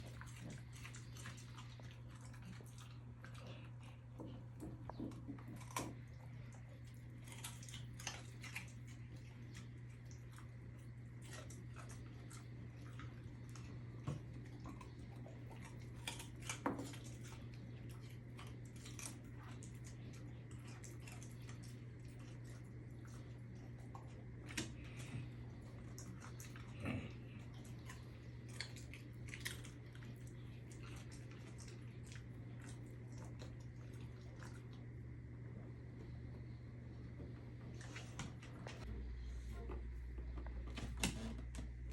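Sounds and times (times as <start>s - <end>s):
dog chewing a carrot: 0.0s - 35.7s
steady low hum: 0.0s - 41.9s.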